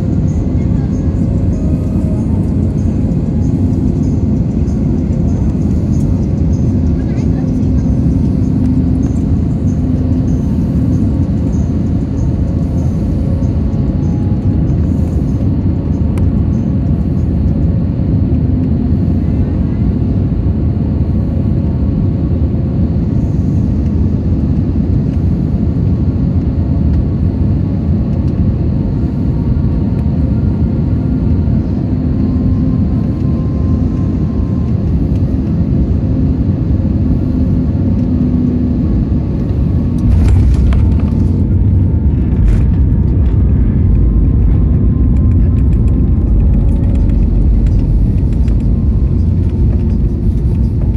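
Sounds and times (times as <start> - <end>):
air rumbling over airframe: 0.0 - 50.9
faint steady hum: 0.0 - 50.9
jet engines droning: 0.0 - 50.9.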